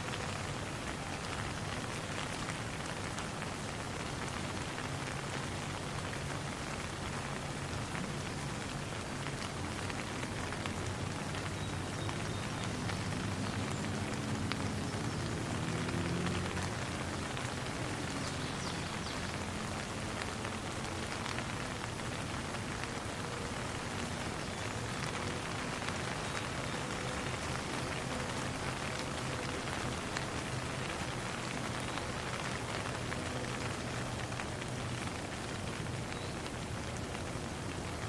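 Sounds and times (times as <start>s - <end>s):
rain patter: 0.0s - 38.0s.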